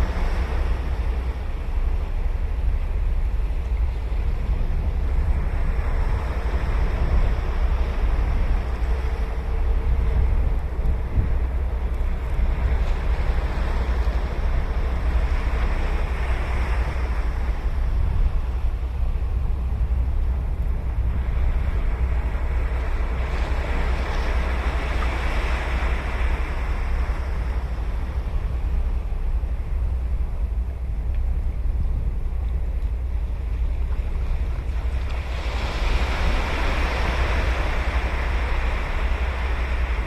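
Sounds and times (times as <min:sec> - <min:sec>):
wind rumble on microphone: 0:00.0 - 0:40.0
ocean surf breaking: 0:04.1 - 0:32.0, 0:33.4 - 0:40.0.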